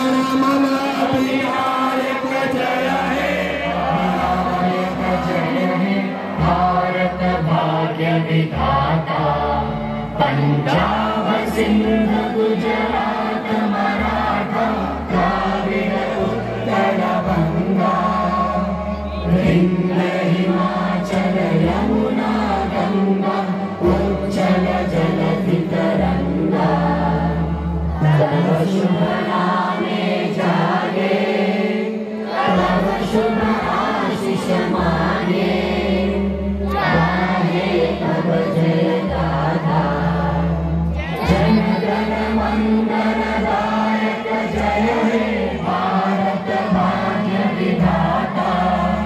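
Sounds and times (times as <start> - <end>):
group of voices singing: 0.0 - 49.0
instrumental backing with bass: 0.0 - 49.0.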